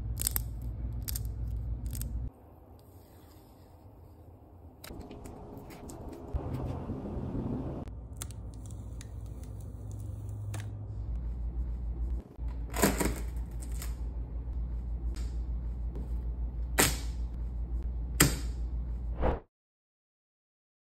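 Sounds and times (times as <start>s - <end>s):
steady low hum: 0.0s - 19.2s.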